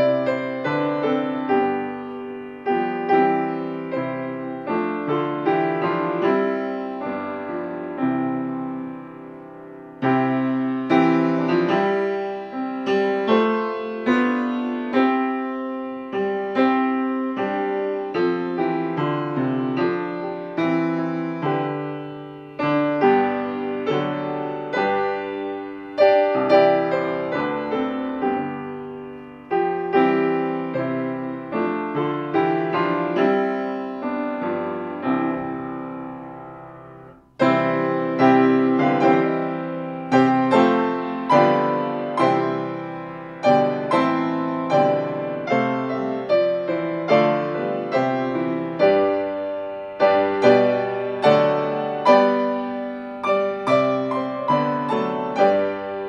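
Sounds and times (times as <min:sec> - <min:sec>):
hymn played on piano: 0:00.0 - 0:56.0.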